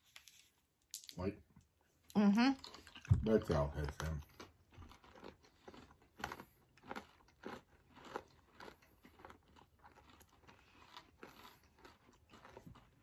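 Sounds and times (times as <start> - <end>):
candy being chewed crunchily: 2.1 - 13.0.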